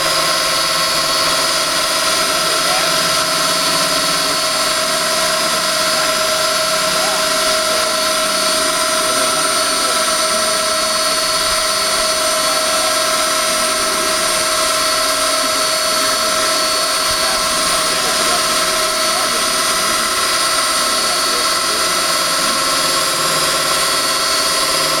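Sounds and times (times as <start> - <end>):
core drill whining through concrete: 0.0 - 25.0.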